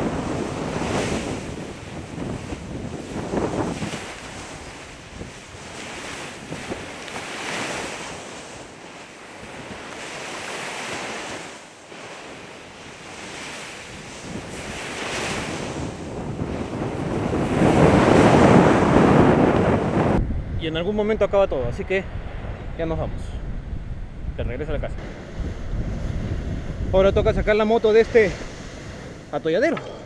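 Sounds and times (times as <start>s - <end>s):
ocean surf breaking on beach: 0.0s - 20.2s, 24.2s - 30.0s
wind buffeting microphone: 0.0s - 30.0s.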